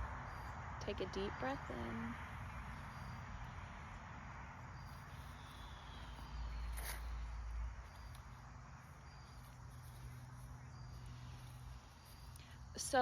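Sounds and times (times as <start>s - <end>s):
insect chirps: 0.0s - 13.0s
low hum: 0.0s - 13.0s.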